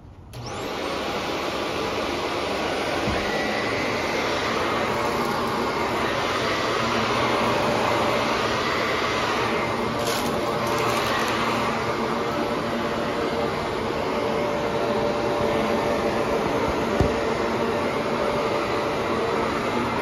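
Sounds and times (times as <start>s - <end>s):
vacuum cleaner running on carpet: 0.3s - 20.0s.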